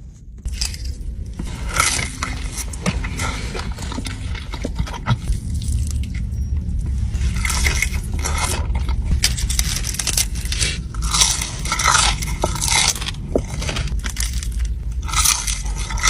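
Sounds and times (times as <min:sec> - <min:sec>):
low hum: 0:00.0 - 0:16.0
crunchy bites and chewing: 0:00.4 - 0:06.3, 0:06.9 - 0:16.0.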